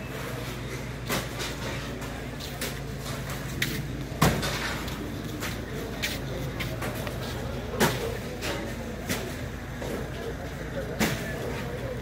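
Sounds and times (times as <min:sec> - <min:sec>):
truck idling with low hum: 0:00.0 - 0:12.0.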